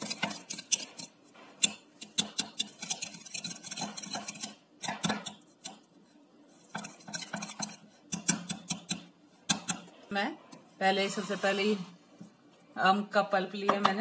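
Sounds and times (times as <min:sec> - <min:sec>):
whisk clicking and scraping bowl: 0:00.0 - 0:11.8.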